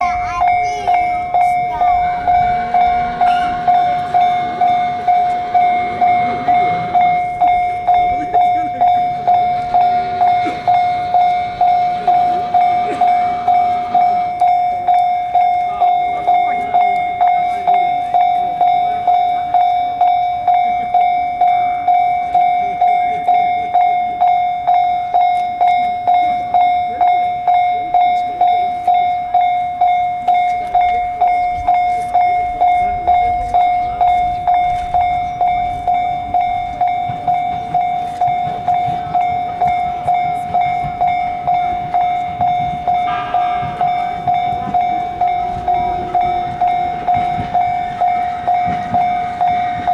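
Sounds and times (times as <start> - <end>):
level crossing warning bell ringing: 0.0 - 49.9.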